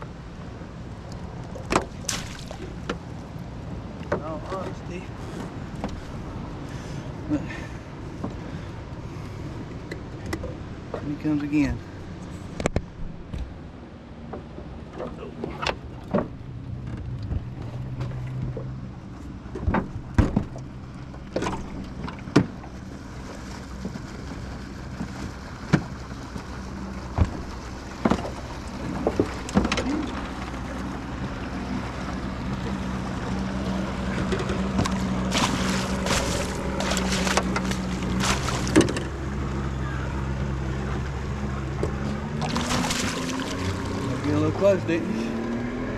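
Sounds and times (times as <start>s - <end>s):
outboard motor running: 0.0s - 45.9s.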